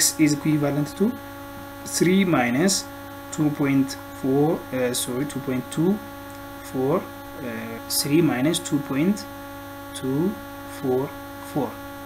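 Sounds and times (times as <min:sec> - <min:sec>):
person speaking: 0:00.0 - 0:01.2, 0:01.8 - 0:09.3, 0:09.9 - 0:11.8
electrical mains hum: 0:00.0 - 0:12.0.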